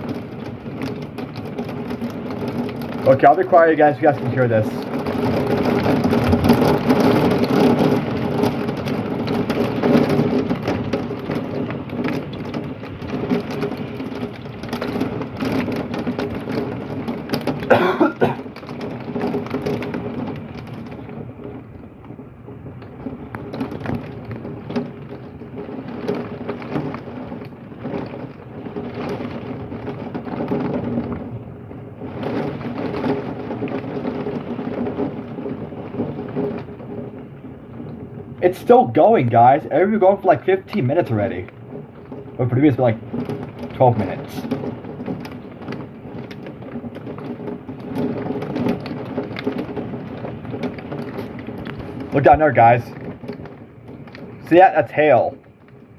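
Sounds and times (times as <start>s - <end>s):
rain and hail on window: 0.0s - 55.9s.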